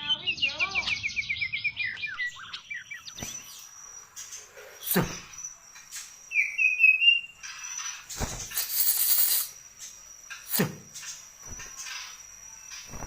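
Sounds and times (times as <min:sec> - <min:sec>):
bird whistled song: 0:00.0 - 0:13.0.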